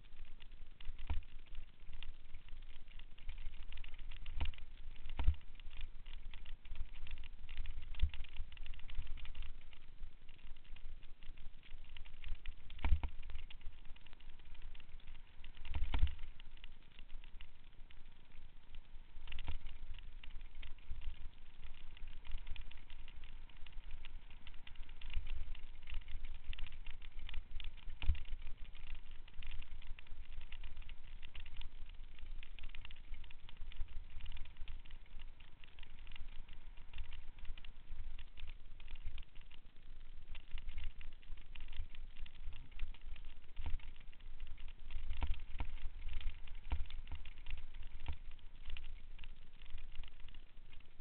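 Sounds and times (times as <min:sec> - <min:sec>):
bike tyres on dirt trail: 0:00.0 - 0:51.0
small clicks: 0:00.0 - 0:51.0.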